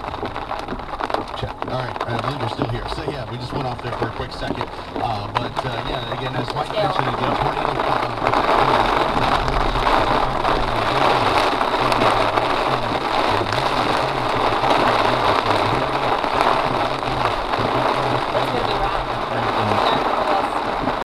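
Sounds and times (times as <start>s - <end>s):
heavy rain on car: 0.0s - 21.0s
tyres hissing on wet road: 0.0s - 21.0s
low hum changing pitch: 1.3s - 20.2s.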